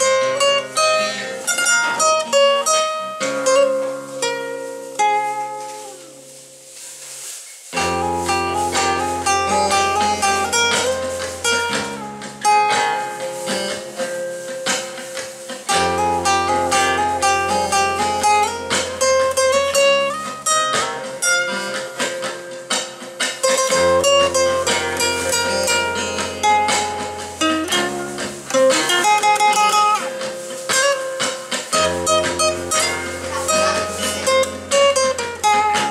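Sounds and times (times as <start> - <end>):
plucked guitar melody: 0.0 - 35.9.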